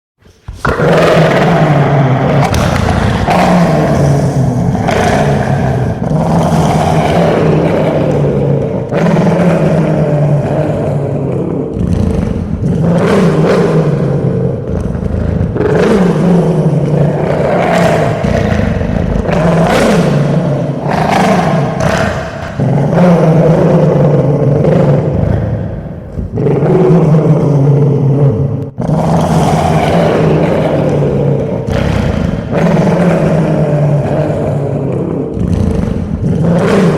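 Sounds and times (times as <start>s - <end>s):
dog growling deeply: 0.6s - 36.9s.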